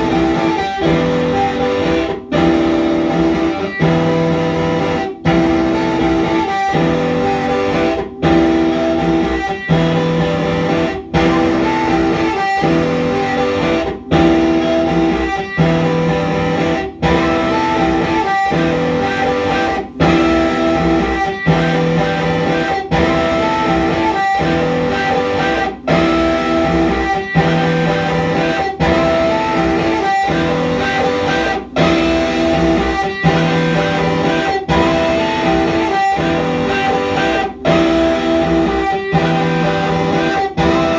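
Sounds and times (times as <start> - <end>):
electric guitar chords: 0.0 - 40.9.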